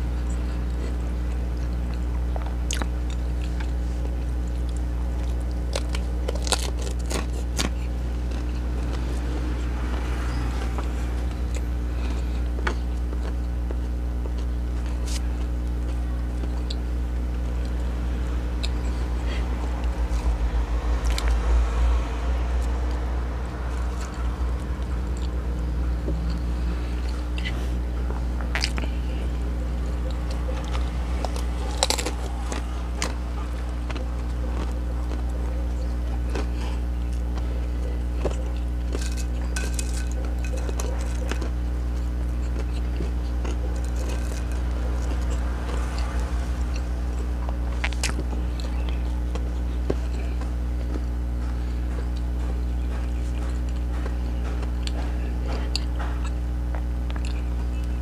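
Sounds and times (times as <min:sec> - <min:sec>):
crunching and wet chewing: 0:00.0 - 0:58.0
low electrical hum: 0:00.0 - 0:58.0.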